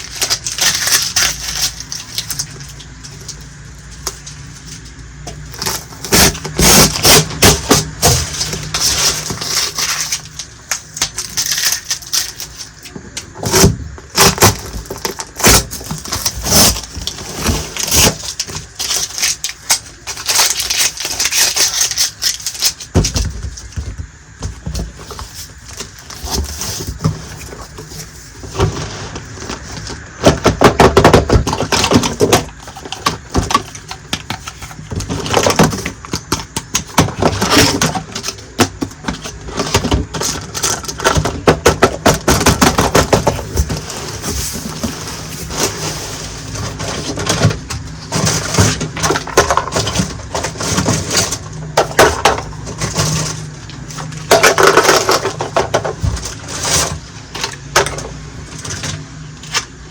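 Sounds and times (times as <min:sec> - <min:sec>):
packaging rustling: 0:00.0 - 0:59.9.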